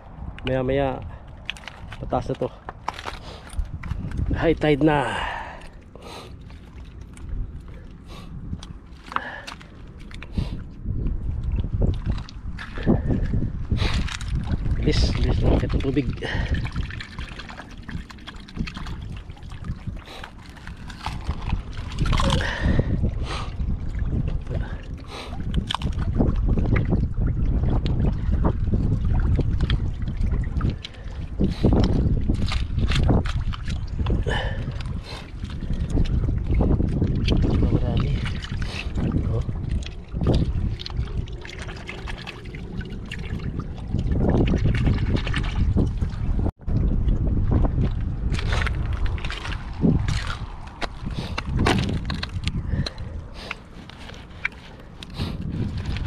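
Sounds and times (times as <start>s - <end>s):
seawater splashing and trickling: 0.0s - 56.0s
wind buffeting microphone: 0.0s - 56.0s.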